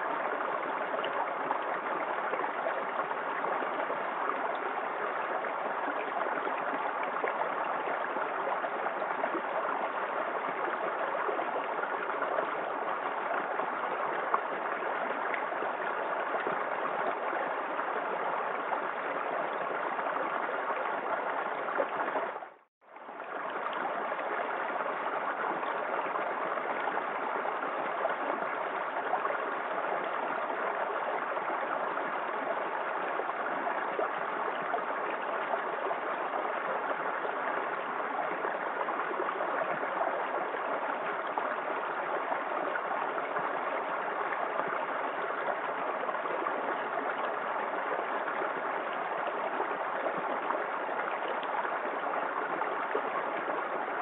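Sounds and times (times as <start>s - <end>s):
small waterfall splashing and gurgling: 0.0s - 54.0s.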